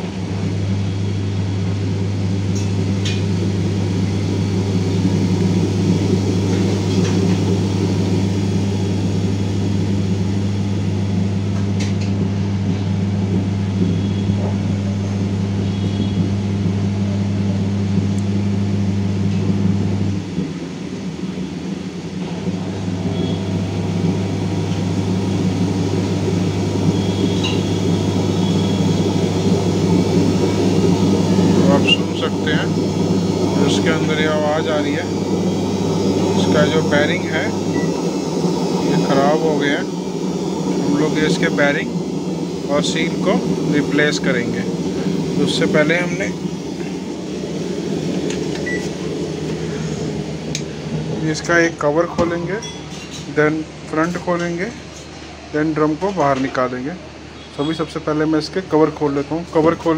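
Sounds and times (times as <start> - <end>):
washing machine drum spinning: 0.0 - 52.7.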